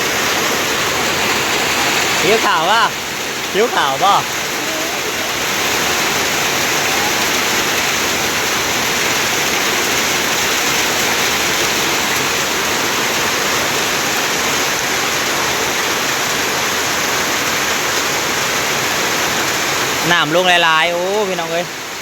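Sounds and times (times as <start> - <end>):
loud rush of water: 0.0 - 22.0.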